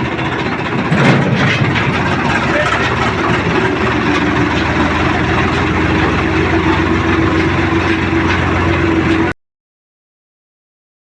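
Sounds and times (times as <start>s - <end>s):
tractor diesel engine running: 0.0s - 9.4s.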